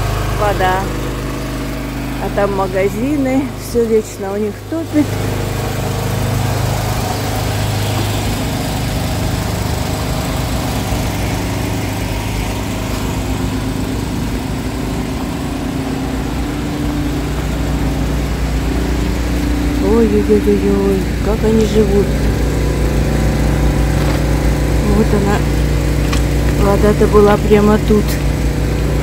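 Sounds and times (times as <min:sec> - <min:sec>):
water pump humming: 0:00.0 - 0:29.0.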